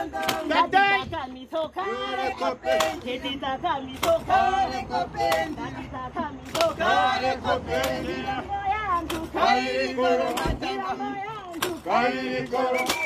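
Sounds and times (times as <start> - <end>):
group singing and chanting: 0.0 - 13.0.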